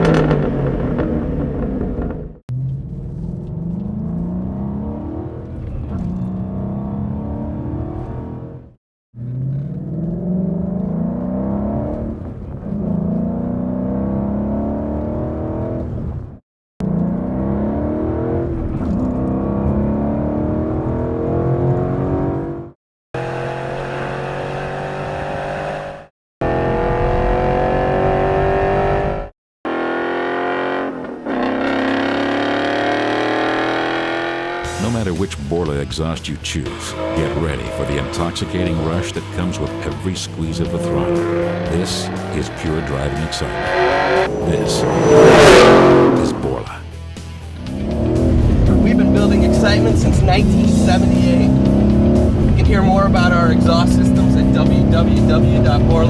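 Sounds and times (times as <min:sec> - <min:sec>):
car engine accelerating hard: 0:00.0 - 0:56.0.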